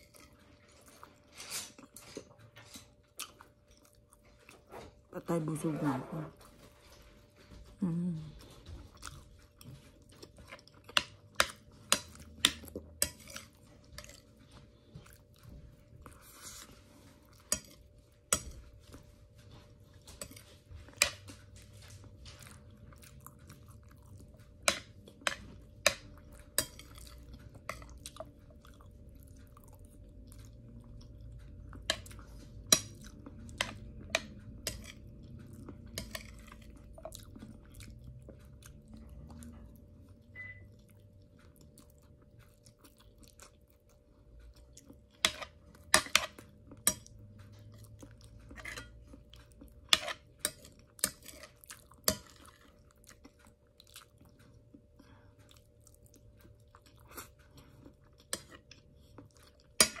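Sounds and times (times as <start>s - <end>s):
person chewing with wet mouth sounds: 0.0s - 5.2s, 6.3s - 60.0s.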